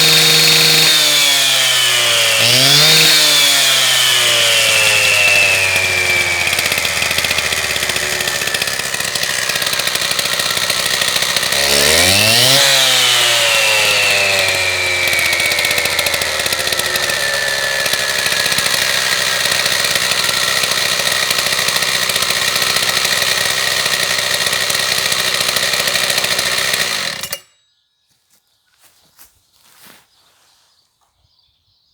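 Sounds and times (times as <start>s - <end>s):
concrete saw engine revving: 0.0s - 27.6s.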